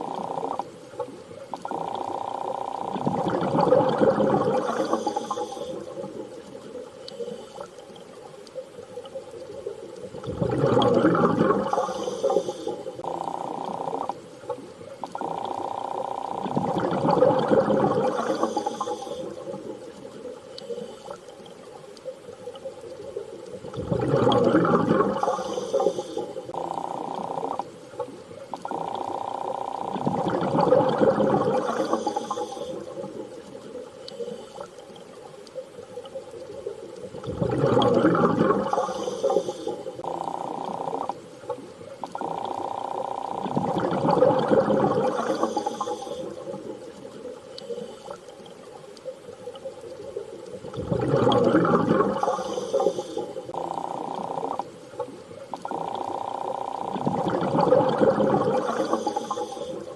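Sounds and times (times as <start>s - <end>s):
surging water: 0.0s - 59.9s.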